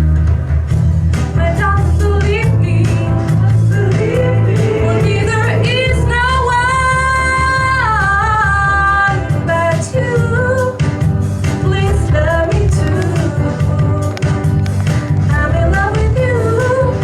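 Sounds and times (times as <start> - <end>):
steady bass line: 0.0 - 17.0
person singing: 1.4 - 17.0.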